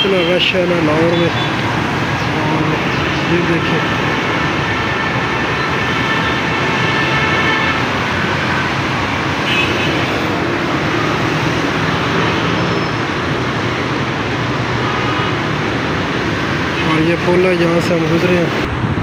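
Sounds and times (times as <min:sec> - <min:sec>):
car and motorcycle engines: 0:00.0 - 0:19.0.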